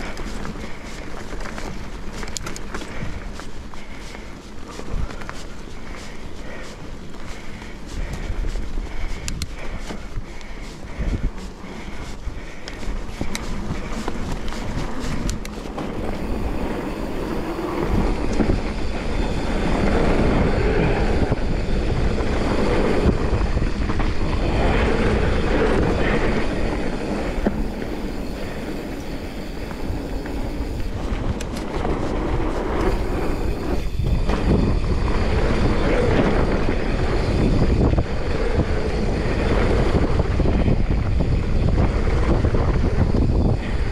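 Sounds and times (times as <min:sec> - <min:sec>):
bike rattling: 0:00.0 - 0:43.9
bike tyres rolling: 0:00.0 - 0:43.9
wind rushing over microphone: 0:00.0 - 0:43.9.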